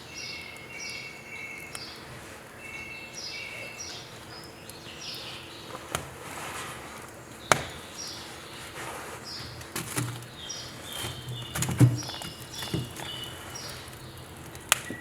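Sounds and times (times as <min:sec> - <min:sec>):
firewood crackling and popping: 0:00.0 - 0:15.0
small birds chirping: 0:00.0 - 0:15.0.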